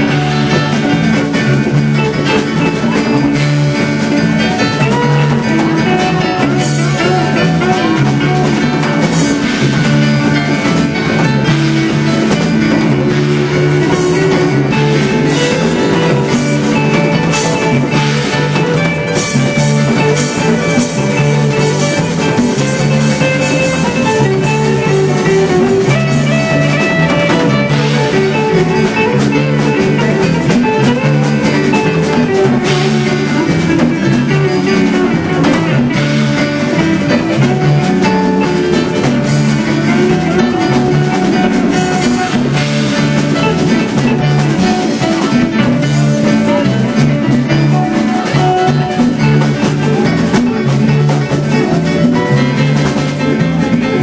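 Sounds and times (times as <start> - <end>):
drum kit: 0.0 - 54.0
electric guitar: 0.0 - 54.0
keyboard: 0.0 - 54.0.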